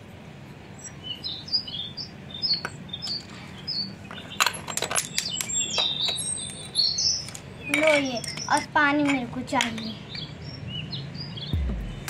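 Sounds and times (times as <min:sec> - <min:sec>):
small birds chirping: 0:00.7 - 0:12.0.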